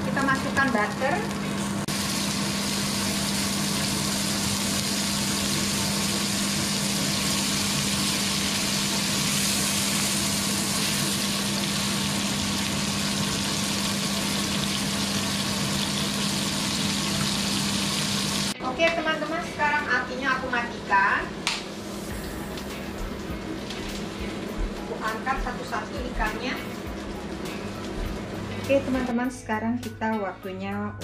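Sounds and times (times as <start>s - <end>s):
fish sizzling in a pan: 0.1s - 18.6s, 21.8s - 28.9s.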